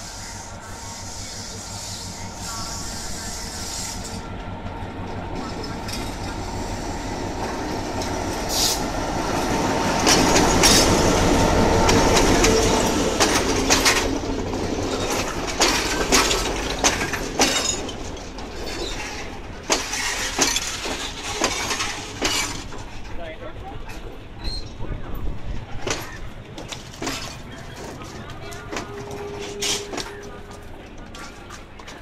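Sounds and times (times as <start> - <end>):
diesel locomotive engine drone: 0.0 - 32.0
train wheels clicking: 0.0 - 32.0.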